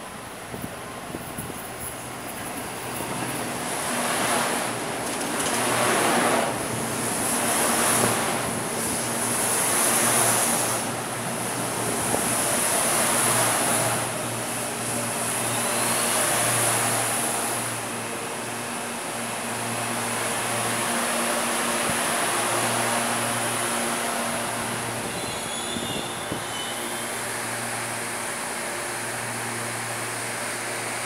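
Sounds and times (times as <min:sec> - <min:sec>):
locomotive hum: 0:00.0 - 0:31.0
train wheels rumbling on rails: 0:00.0 - 0:31.0.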